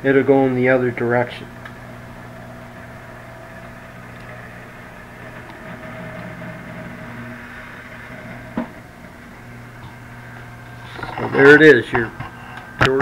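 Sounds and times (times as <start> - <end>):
rotisserie motor humming: 0.0 - 13.0.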